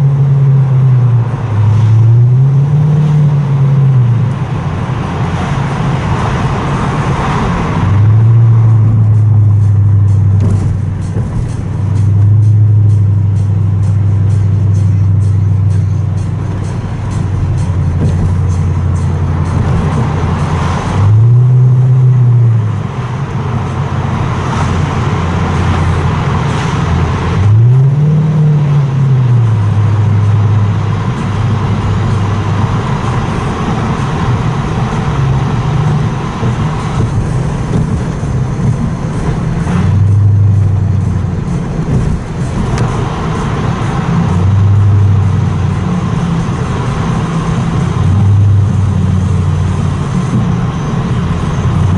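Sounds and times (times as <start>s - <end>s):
car engine droning in tunnel: 0.0s - 51.9s.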